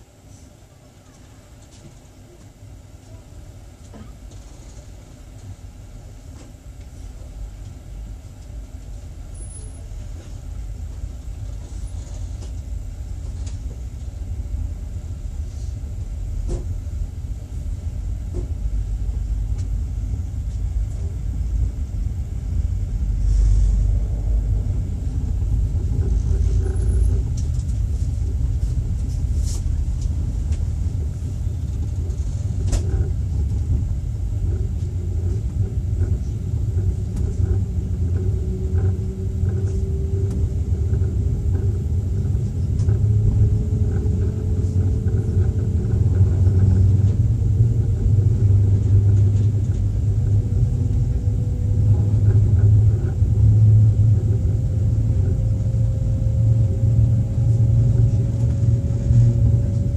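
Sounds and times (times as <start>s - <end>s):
train wheels rumbling: 3.9s - 59.9s.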